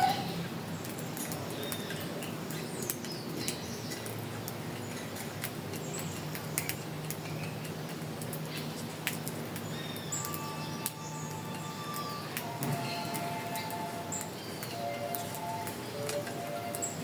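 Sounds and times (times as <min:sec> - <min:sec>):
birds chirping: 0:00.0 - 0:09.0, 0:09.6 - 0:17.0.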